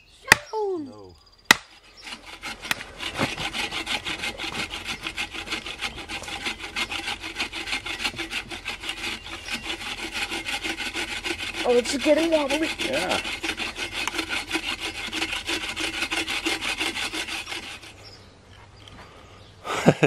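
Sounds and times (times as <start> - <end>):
bow saw cutting log: 1.5 - 18.0.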